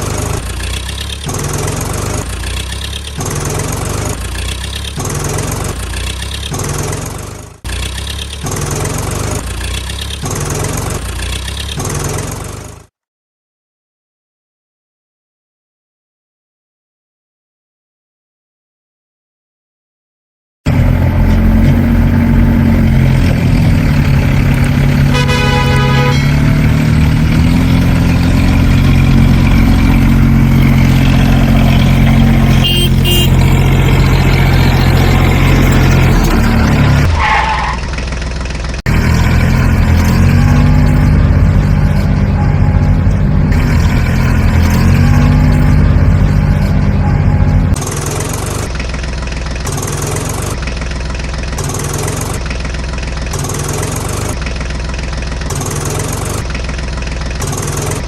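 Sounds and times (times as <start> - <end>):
truck engine revving: 0.0 - 12.9, 20.7 - 58.0.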